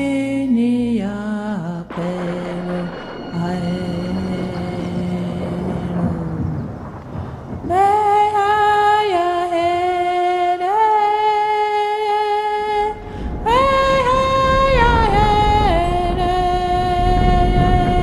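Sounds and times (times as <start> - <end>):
wordless voice singing: 0.0 - 6.8, 7.6 - 18.0
low rumble: 0.0 - 18.0.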